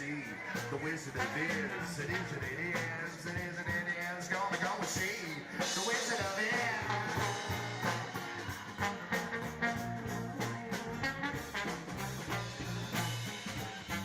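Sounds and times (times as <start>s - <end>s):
bass notes: 0.0s - 4.0s, 6.1s - 14.0s
drums keeping a steady beat: 0.0s - 14.0s
guitar: 0.0s - 14.0s.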